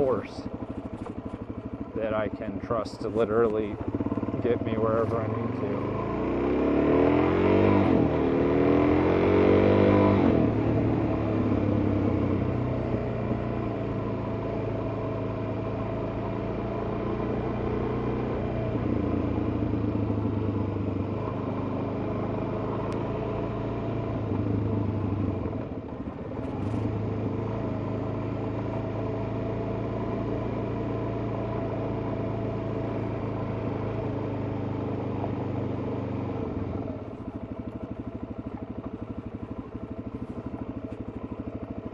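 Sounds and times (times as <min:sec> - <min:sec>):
motorcycle engine revving and running: 0:00.0 - 0:41.9.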